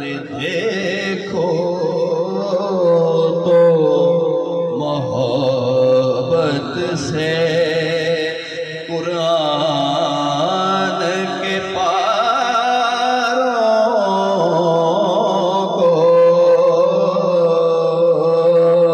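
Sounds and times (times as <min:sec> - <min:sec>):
man singing through a microphone: 0:00.0 - 0:18.9.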